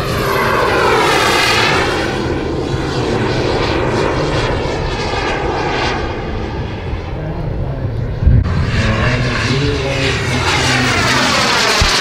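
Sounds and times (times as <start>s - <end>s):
jet turbine whine passing: 0.0s - 12.0s.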